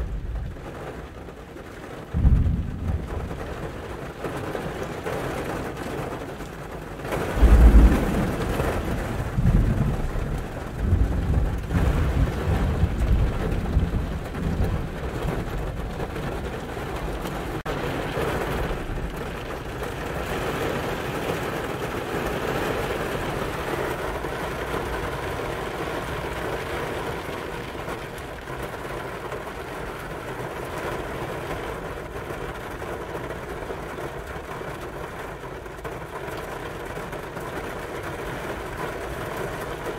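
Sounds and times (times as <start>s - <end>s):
rain falling on car: 0.0s - 39.9s
thunder clap and rumbles: 0.0s - 39.9s.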